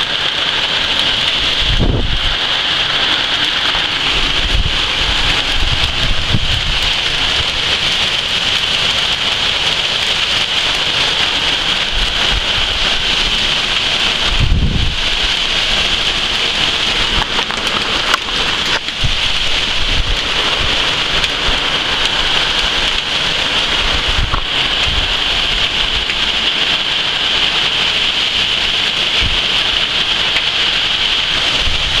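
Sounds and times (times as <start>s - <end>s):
heavy rain pouring: 0.0s - 32.0s
low thunder rumble: 1.1s - 9.6s, 10.5s - 29.8s, 31.2s - 32.0s.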